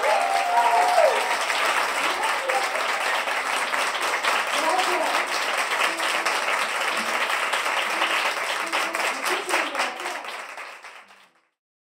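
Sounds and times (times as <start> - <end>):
audience clapping: 0.0 - 11.6.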